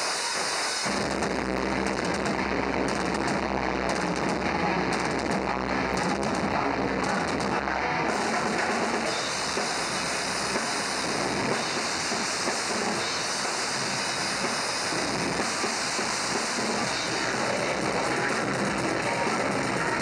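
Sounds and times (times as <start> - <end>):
metal band playing live: 0.0 - 20.0.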